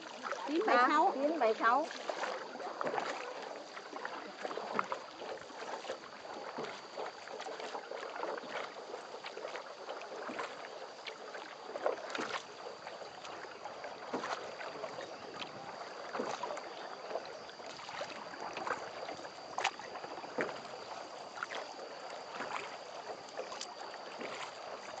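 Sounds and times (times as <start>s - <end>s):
oar splashes and drips: 0.0s - 25.0s
water splashing around rowboat: 0.0s - 25.0s.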